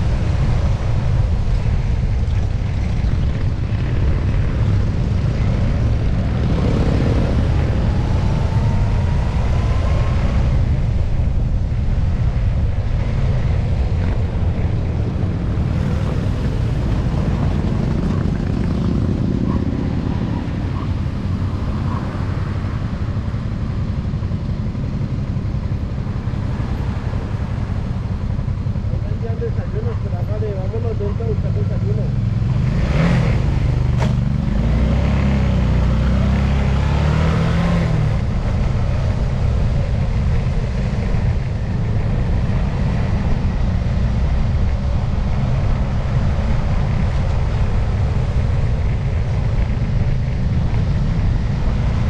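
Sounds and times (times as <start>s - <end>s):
motorcycle engine rumbling: 0.0s - 52.0s.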